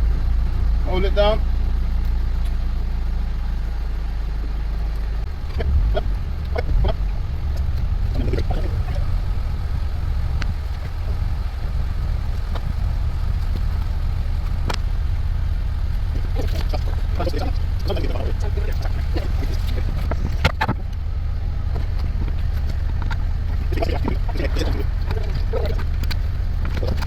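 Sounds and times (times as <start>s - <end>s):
engine idling rumble: 0.0s - 27.0s.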